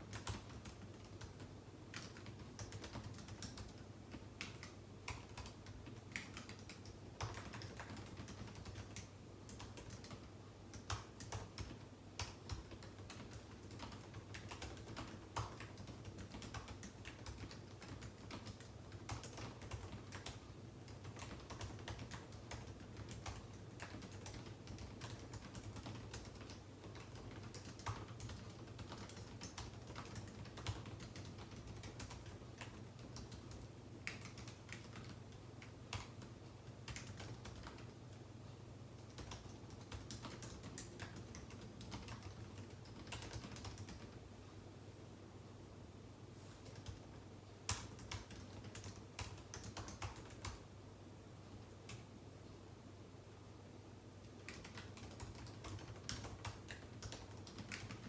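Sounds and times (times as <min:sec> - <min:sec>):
typing on computer keyboard: 0:00.0 - 0:38.1, 0:39.0 - 0:44.2, 0:46.6 - 0:50.6, 0:54.2 - 0:58.0
faint low hum: 0:00.0 - 0:58.0.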